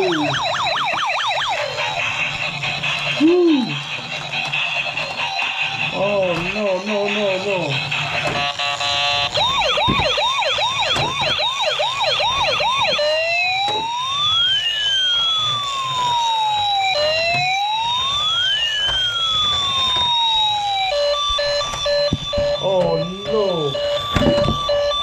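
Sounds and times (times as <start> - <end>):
electronic siren yelping and wailing: 0.0 - 25.0.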